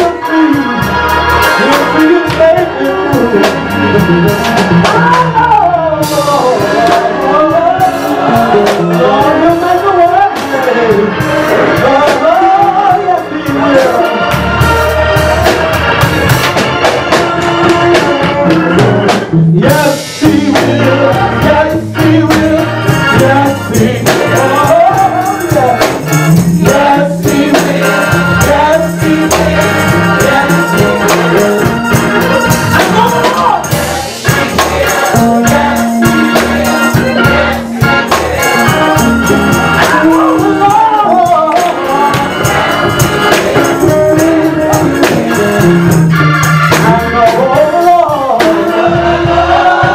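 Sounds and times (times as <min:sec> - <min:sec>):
man singing into microphone: 0:00.0 - 0:14.8, 0:17.0 - 0:37.9, 0:38.6 - 0:49.9
band with drums and keyboard: 0:00.0 - 0:49.9.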